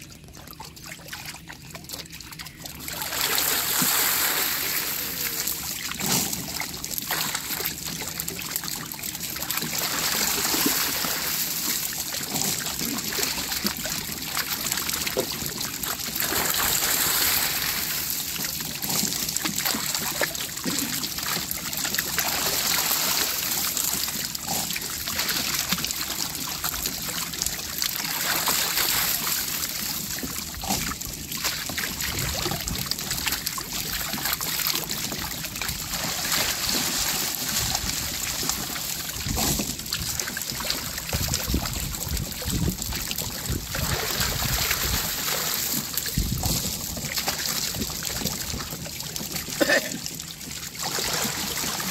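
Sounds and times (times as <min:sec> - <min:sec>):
water splashing and trickling: 0:00.0 - 0:51.9
fish splashing: 0:00.2 - 0:08.2, 0:08.8 - 0:41.6, 0:43.2 - 0:49.8, 0:50.5 - 0:51.9
water streaming off net: 0:00.7 - 0:51.9.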